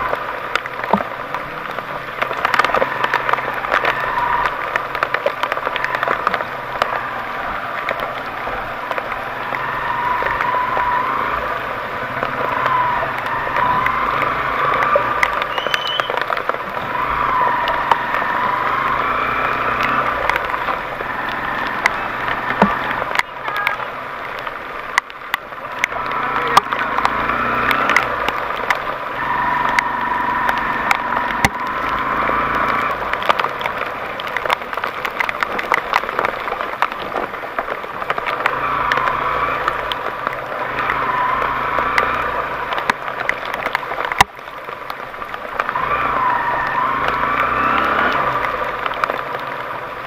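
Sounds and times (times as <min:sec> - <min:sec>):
sharp clicks and cracks: 0:00.0 - 0:50.0
vehicle engine working hard: 0:00.0 - 0:50.0.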